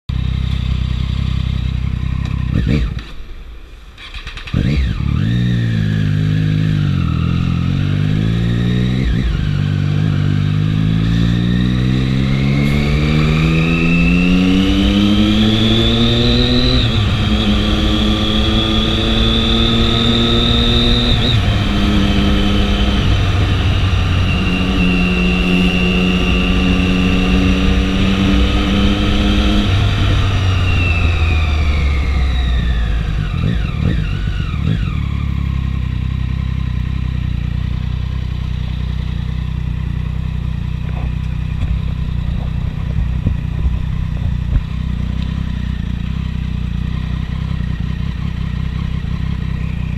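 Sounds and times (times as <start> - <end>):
motorcycle engine revving: 0.1 - 49.9.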